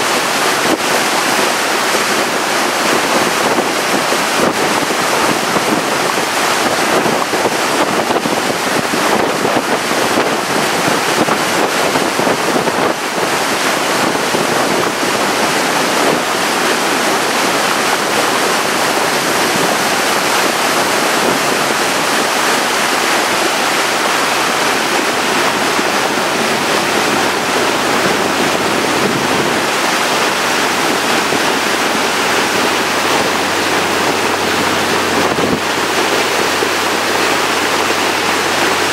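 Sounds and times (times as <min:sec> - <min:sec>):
boat rushing through water: 0:00.0 - 0:38.9
wind buffeting microphone: 0:00.0 - 0:38.9.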